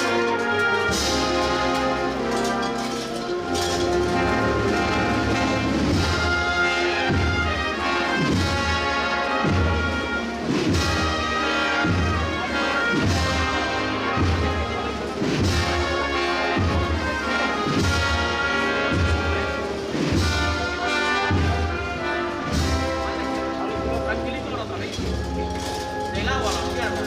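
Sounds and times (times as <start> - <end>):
brass playing march tune: 0.0 - 27.0.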